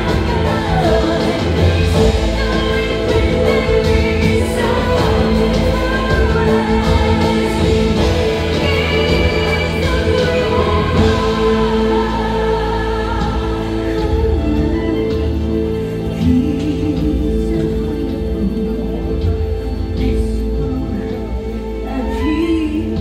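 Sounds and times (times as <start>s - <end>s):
people singing: 0.0s - 19.2s
steady bass: 0.0s - 21.9s
sustained instrumental chords: 0.0s - 22.0s.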